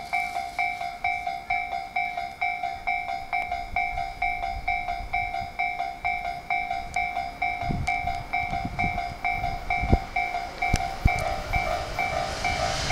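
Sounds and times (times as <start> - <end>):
distant train rumble: 0.0 - 12.9
level-crossing bell two-tone ding: 0.0 - 12.9.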